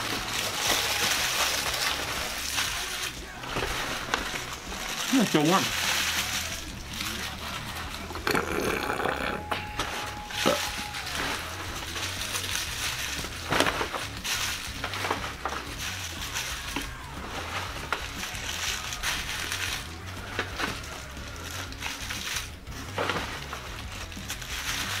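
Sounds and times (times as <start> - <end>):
crunchy clicks: 0.0 - 25.0.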